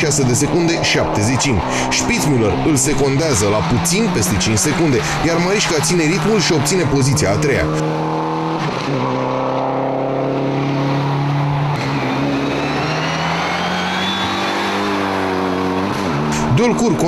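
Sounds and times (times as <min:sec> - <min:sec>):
car engine at high revs: 0:00.0 - 0:17.0.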